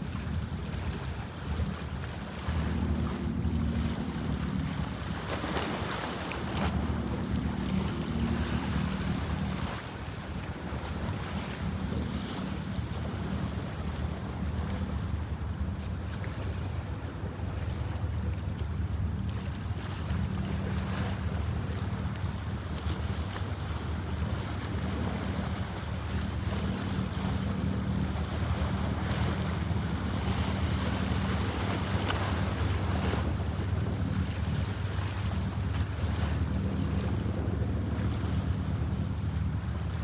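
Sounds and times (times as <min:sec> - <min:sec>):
boat engine humming: 0:00.0 - 0:40.0
wind buffeting microphone: 0:00.0 - 0:40.0.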